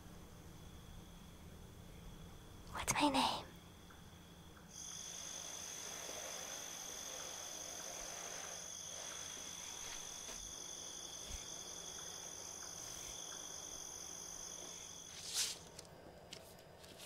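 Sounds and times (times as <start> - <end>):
crickets trilling: 0.2 - 17.0.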